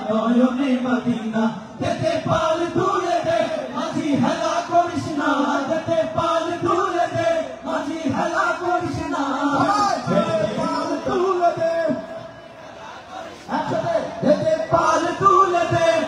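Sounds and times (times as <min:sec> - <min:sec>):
men singing through microphones: 0:00.0 - 0:16.0.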